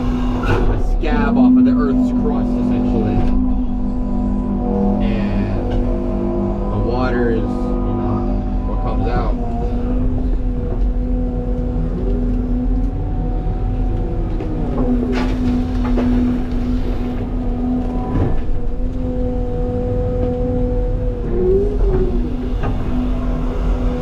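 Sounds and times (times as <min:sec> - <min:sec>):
excavator engine and hydraulics: 0:00.0 - 0:24.0.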